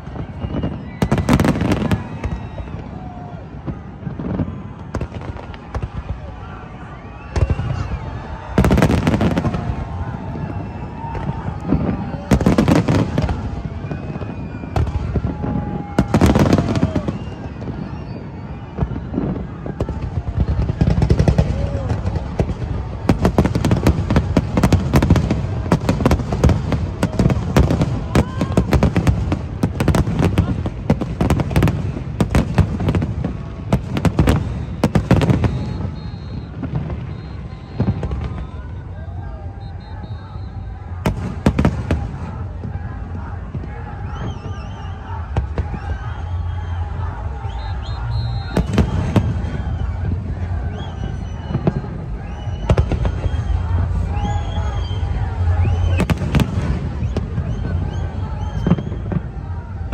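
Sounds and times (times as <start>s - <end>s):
fireworks bangs: 0.0s - 59.9s
people's voices: 0.0s - 59.9s.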